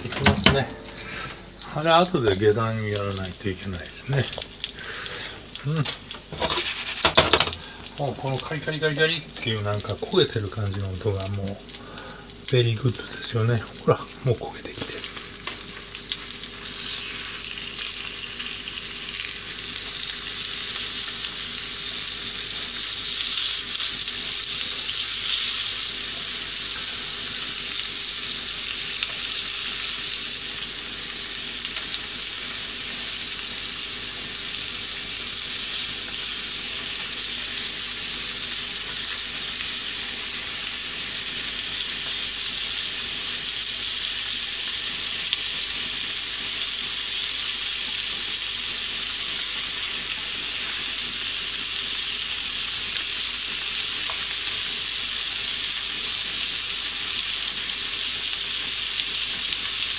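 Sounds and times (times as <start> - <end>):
dumplings sizzling in a frying pan: 0.0 - 59.9.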